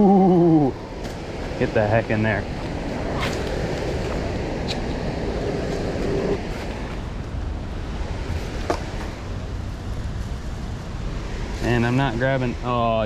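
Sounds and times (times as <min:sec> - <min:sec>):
wind buffeting microphone: 0:00.4 - 0:12.6.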